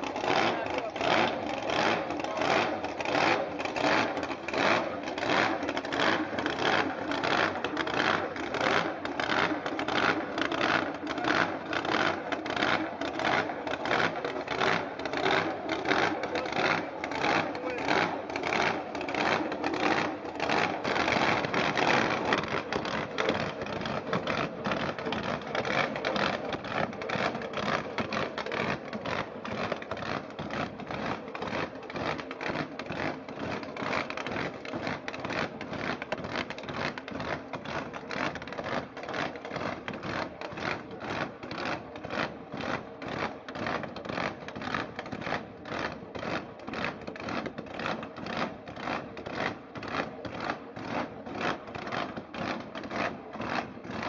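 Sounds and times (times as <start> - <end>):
toy truck motor clattering: 0.0 - 54.0.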